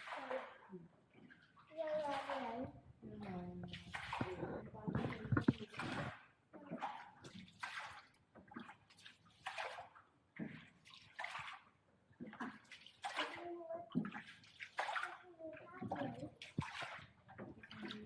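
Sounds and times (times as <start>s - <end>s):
oars splashing through water: 0.0s - 18.0s.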